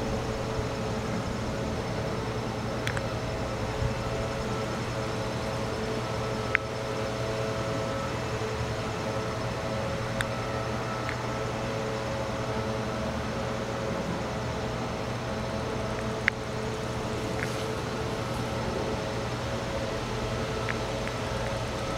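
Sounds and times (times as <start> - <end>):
steady mechanical hum: 0.0 - 21.9.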